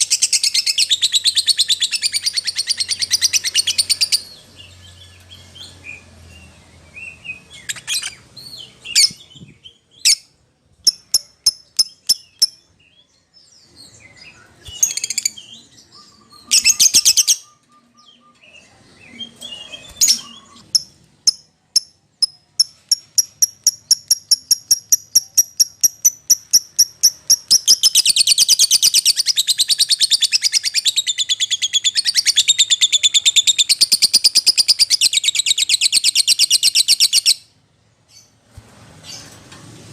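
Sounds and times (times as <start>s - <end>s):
lovebird chirping: 0.0s - 38.4s.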